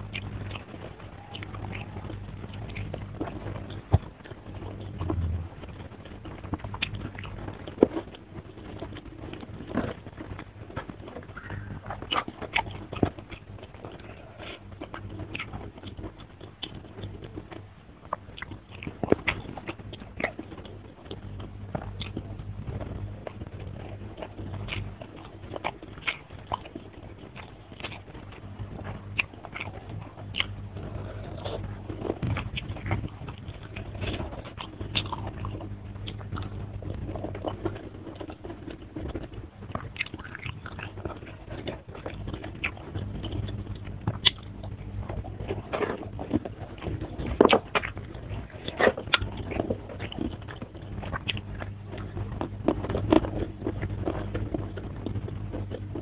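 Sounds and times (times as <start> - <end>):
close chewing and crunching: 0.0 - 56.0
steady low hum: 0.0 - 56.0.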